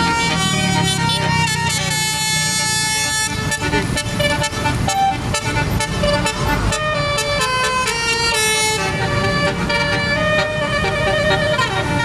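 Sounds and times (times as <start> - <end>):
bus horn playing a tune: 0.0 - 12.0
low engine rumble: 0.0 - 12.0.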